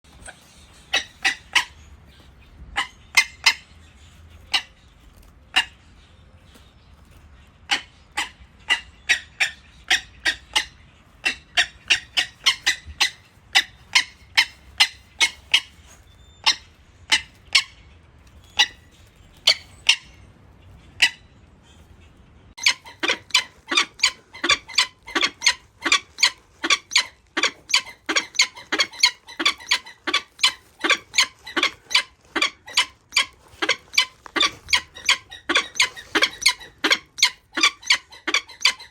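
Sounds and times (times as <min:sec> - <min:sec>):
bird of prey calling: 0:00.1 - 0:03.7, 0:07.7 - 0:20.3, 0:22.5 - 0:38.9.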